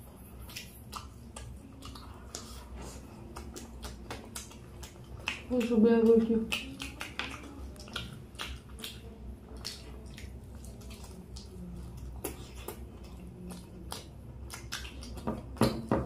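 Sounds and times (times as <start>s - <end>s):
wet chewing and lip-smacking: 0.0s - 16.0s.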